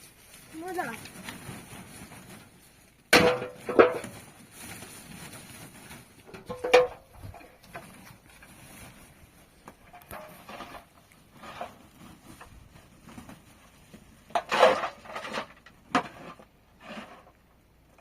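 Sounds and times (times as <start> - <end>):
rubbing and scraping: 0.0 - 18.0.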